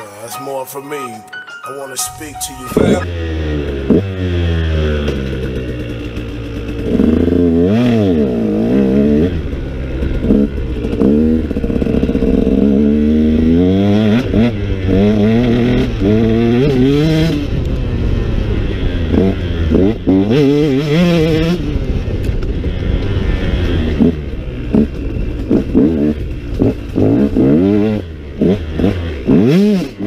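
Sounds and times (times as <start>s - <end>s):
dirt bike engine revving: 3.0s - 30.0s.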